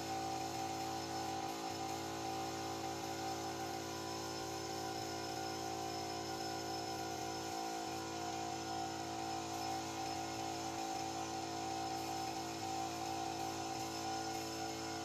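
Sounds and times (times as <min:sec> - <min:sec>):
spray gun hissing: 0:00.0 - 0:15.0.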